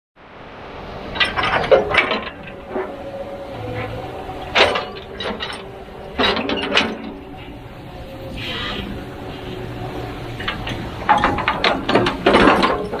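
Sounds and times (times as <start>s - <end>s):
excavator diesel engine running: 0.8s - 13.0s
metallic clanks and knocks: 1.1s - 8.2s, 8.9s - 13.0s.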